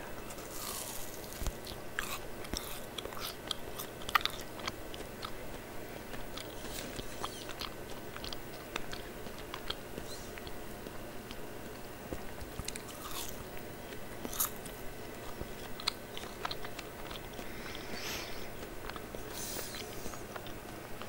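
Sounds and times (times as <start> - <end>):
chewing marshmallows: 0.2 - 21.0.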